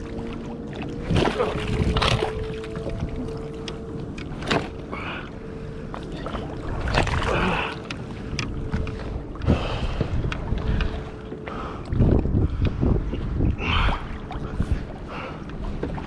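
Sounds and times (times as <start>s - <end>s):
knocks and clicks on hull: 0.0s - 5.0s, 5.8s - 16.0s
water splashing against kayak: 0.0s - 16.0s.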